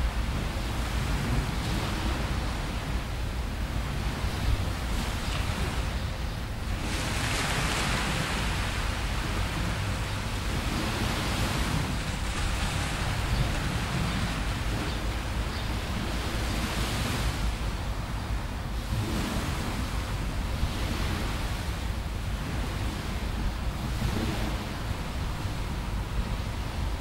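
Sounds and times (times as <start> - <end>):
small waves washing ashore: 0.0 - 27.0
wind rumble on microphone: 0.0 - 27.0.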